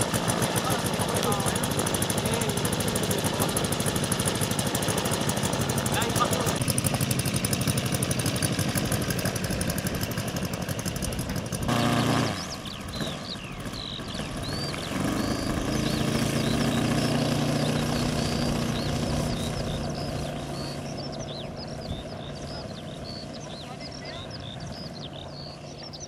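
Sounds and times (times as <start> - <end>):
model airplane engine running: 0.0 - 26.0.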